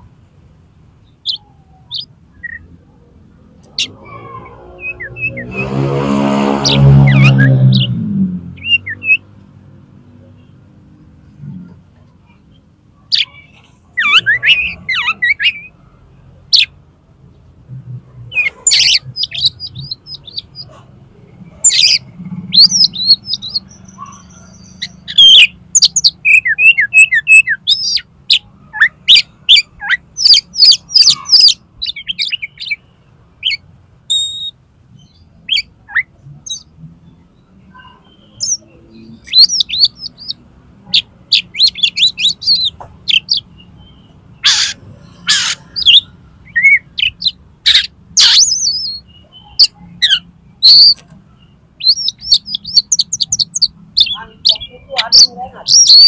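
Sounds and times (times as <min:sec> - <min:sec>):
bird singing chirps and trills: 0:01.0 - 0:09.4, 0:12.2 - 0:15.8, 0:16.5 - 0:17.5, 0:18.3 - 0:56.0.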